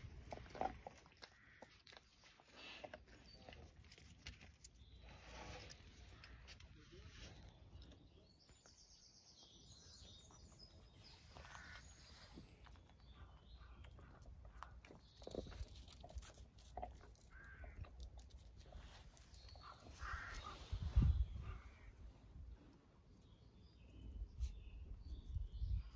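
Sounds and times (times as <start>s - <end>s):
faint birdsong: 0.0s - 25.9s.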